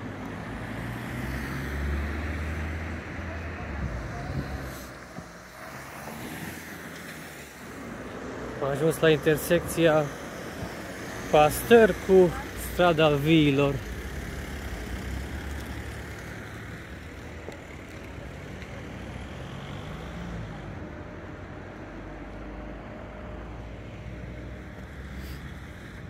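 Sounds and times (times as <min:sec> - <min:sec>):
car traffic passing: 0:00.0 - 0:26.0.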